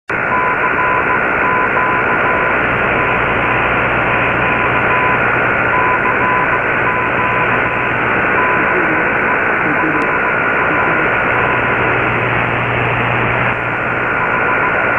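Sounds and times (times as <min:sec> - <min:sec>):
shortwave static hiss: 0:00.1 - 0:14.9
intermittent lower tone: 0:00.2 - 0:14.9.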